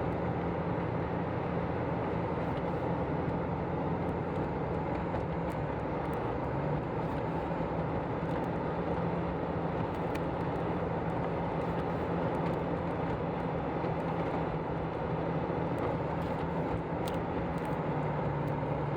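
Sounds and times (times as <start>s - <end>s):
road noise: 0.0s - 18.9s
vehicle engine hum: 0.0s - 18.9s.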